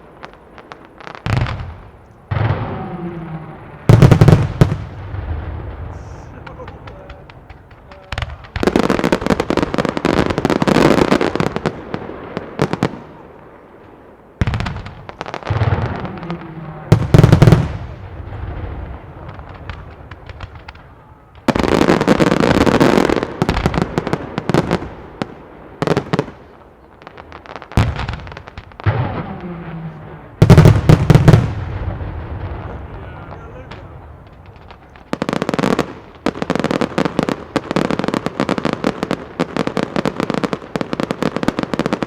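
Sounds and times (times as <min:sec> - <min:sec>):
deep fireworks booms: 0:00.0 - 0:42.0
fireworks bursting: 0:00.0 - 0:42.0
fireworks crackling: 0:00.0 - 0:42.0.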